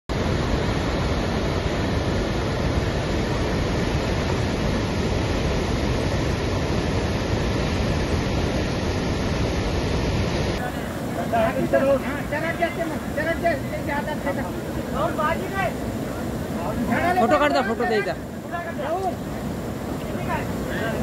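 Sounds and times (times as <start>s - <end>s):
water rushing from dam spillway: 0.1s - 21.0s.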